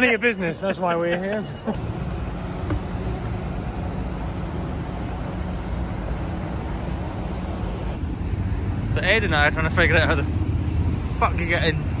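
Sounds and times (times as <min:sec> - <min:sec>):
bus engine rumbling: 0:00.0 - 0:12.0
city road traffic: 0:00.0 - 0:12.0.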